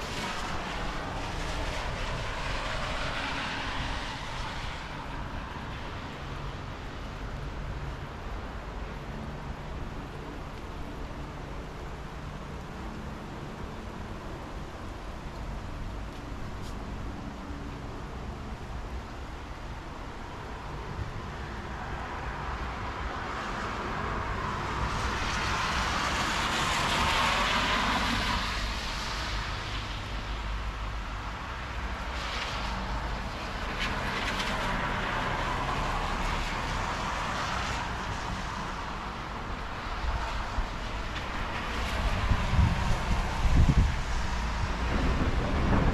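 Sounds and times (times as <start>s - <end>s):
vehicles passing by: 0.0s - 45.9s.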